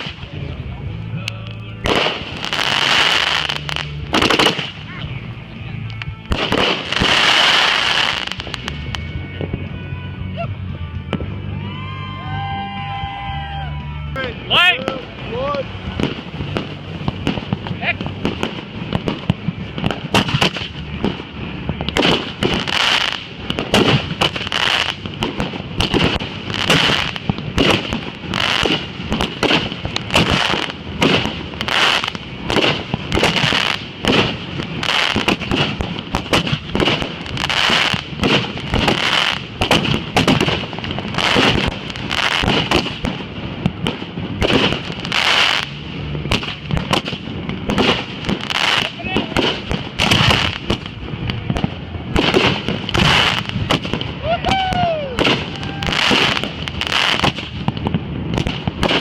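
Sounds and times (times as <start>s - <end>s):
fireworks banging: 0.0s - 9.9s, 14.1s - 59.0s.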